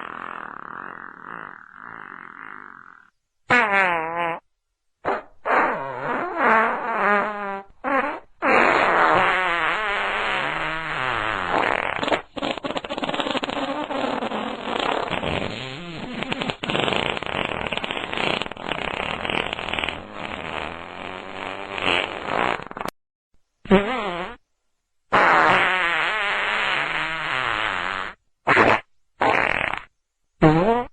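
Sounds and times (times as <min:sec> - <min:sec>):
farts: 0:00.0 - 0:04.4, 0:05.0 - 0:23.0, 0:23.7 - 0:24.4, 0:25.1 - 0:30.9.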